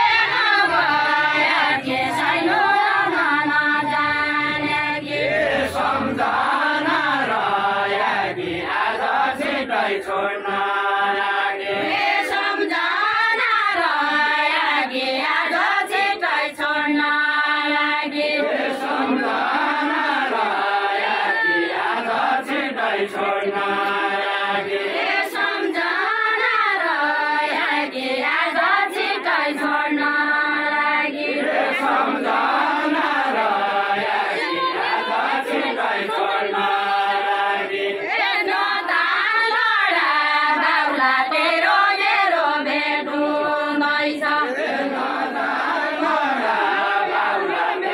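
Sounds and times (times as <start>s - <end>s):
men singing in unison: 0.0s - 47.9s.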